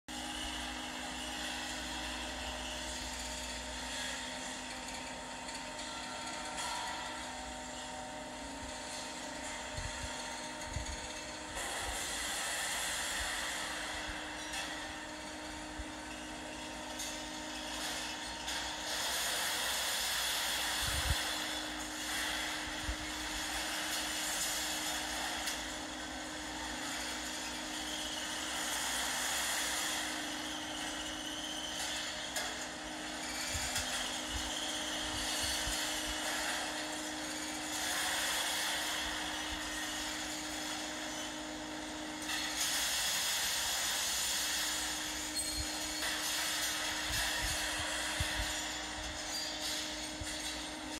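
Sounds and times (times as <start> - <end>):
continuous rushing hiss: 0.1 - 50.9
steady industrial hum: 0.1 - 50.9.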